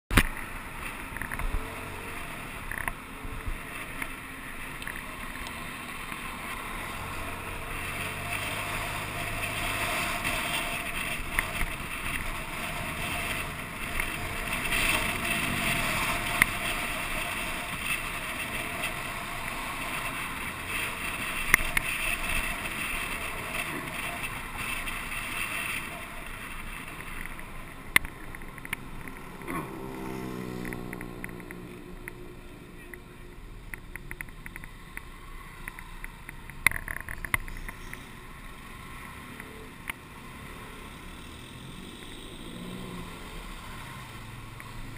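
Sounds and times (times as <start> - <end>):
wind and road noise: 0.1 - 44.9.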